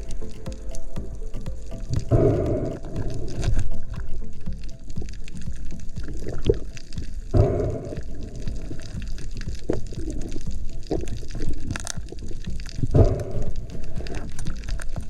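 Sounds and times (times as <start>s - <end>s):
sea water sloshing and gurgling: 2.0s - 15.0s.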